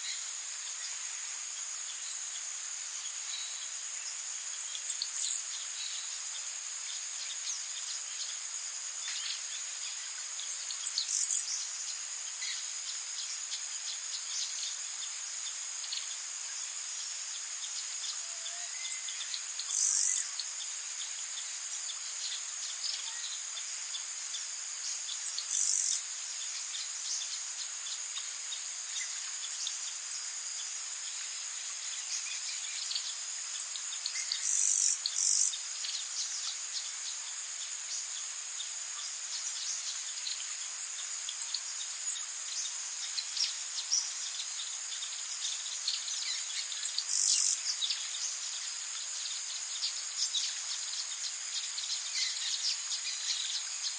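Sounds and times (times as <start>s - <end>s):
high drone of insects: 0.0s - 53.9s
loud insect calls: 0.0s - 53.9s.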